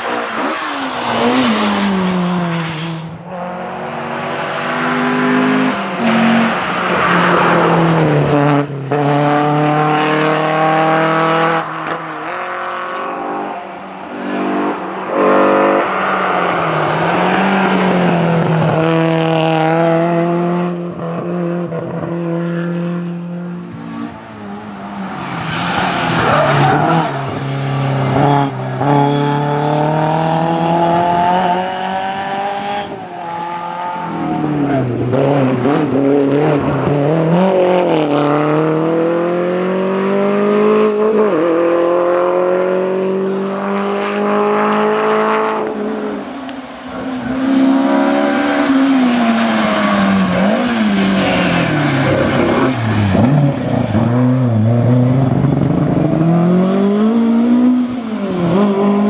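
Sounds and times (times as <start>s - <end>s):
car passing by: 0.0s - 20.8s, 29.2s - 59.0s
rally car engines revving: 0.0s - 59.0s.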